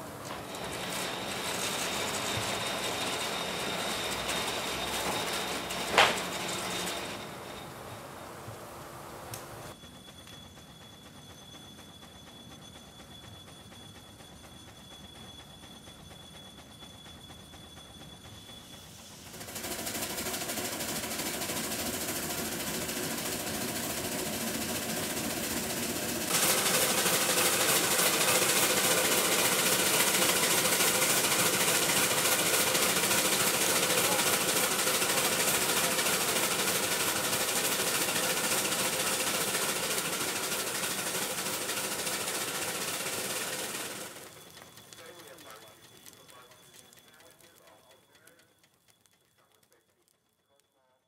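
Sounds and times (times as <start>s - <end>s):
steam hissing: 0.0s - 10.0s, 12.2s - 48.2s
steam engine clatter: 0.0s - 50.3s.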